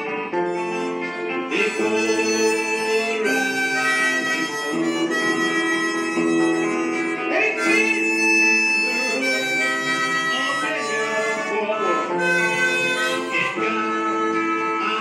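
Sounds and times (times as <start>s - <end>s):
harmonica chords: 0.0s - 15.0s.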